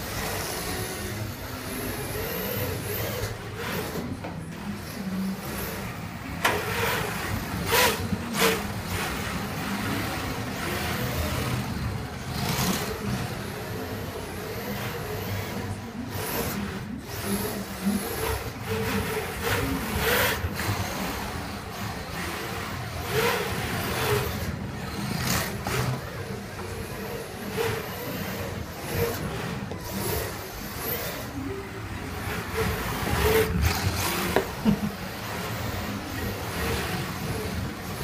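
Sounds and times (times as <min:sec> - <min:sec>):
toy cars whirring: 0:00.0 - 0:38.0.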